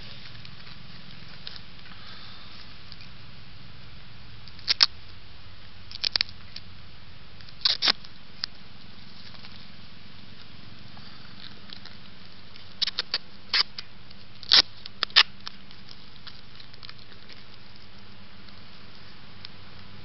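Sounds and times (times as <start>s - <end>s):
dry leaves crackling: 0.0s - 20.0s
faint steady hiss: 0.0s - 20.0s.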